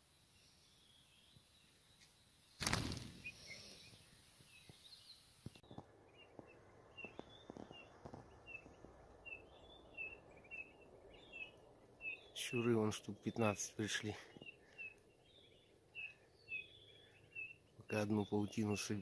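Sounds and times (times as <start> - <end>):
flock of birds chirping: 0.0 - 19.0.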